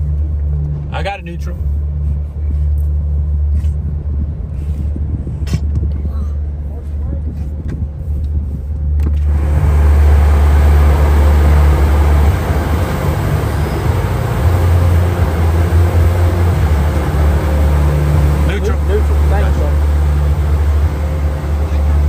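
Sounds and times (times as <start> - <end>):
car wash rumble: 0.0 - 22.0.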